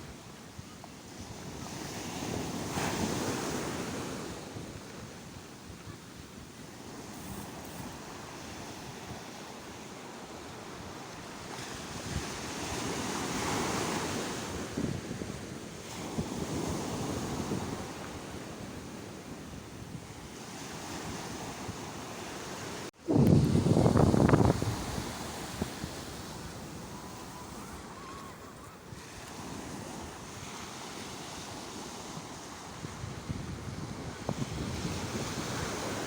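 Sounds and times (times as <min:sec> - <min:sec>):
wind on microphone: 0:00.0 - 0:36.0.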